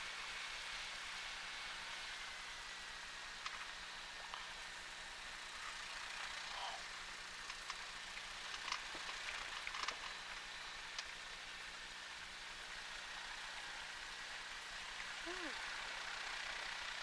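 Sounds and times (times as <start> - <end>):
faint engine hiss: 0.0 - 17.0.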